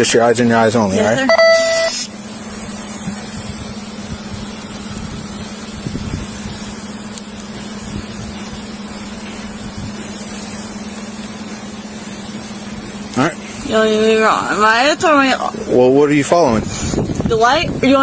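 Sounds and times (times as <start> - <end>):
constant low hum: 0.0 - 18.0
hiss: 1.6 - 18.0.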